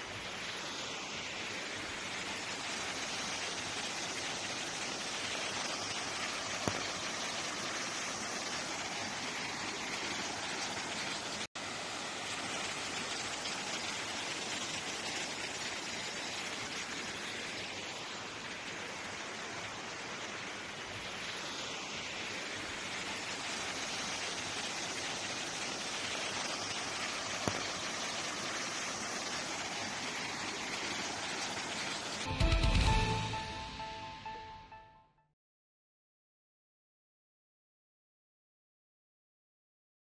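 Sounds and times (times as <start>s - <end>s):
water rushing: 0.0s - 34.0s.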